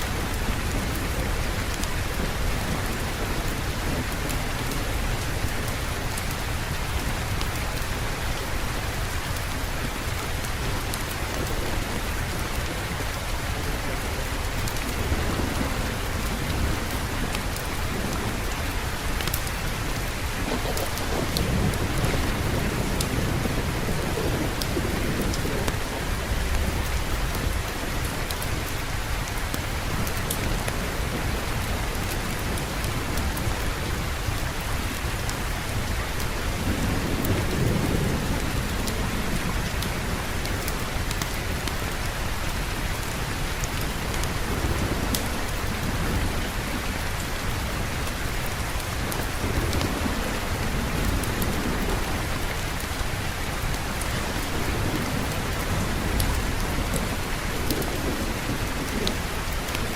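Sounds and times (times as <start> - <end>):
heavy rain pouring: 0.0 - 59.9
low rolls of thunder: 9.0 - 42.4, 43.0 - 59.9.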